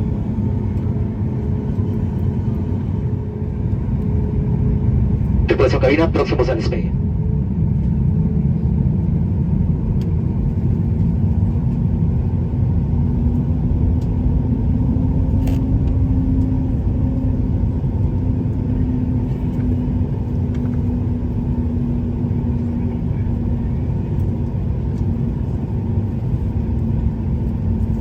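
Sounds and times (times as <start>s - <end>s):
heavy runway rumble: 0.0s - 28.0s
jet engines at high thrust: 0.0s - 28.0s.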